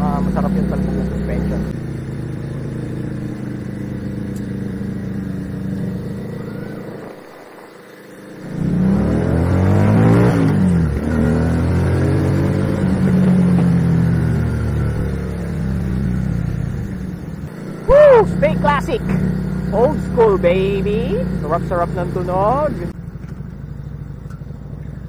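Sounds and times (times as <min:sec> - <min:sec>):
motorcycle engine passing by: 0:00.0 - 0:25.0.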